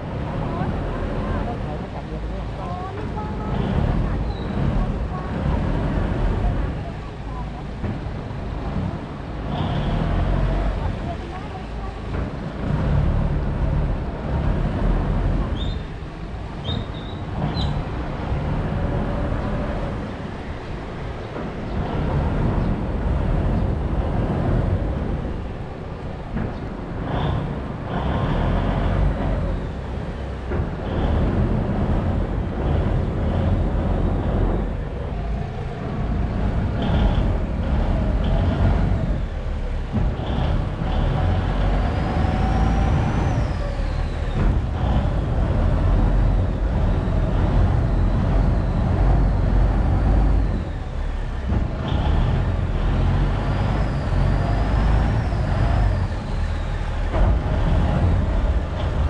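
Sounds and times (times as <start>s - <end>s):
boat diesel engine rumble: 0.0s - 59.0s.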